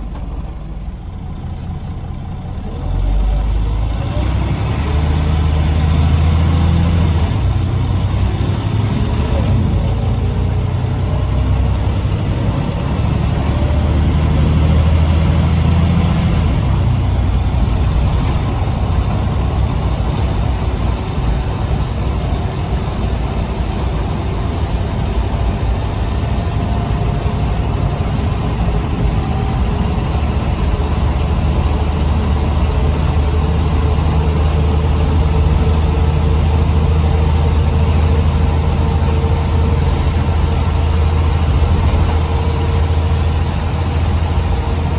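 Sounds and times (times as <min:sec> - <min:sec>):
bus diesel engine rumbling: 0:00.0 - 0:44.9.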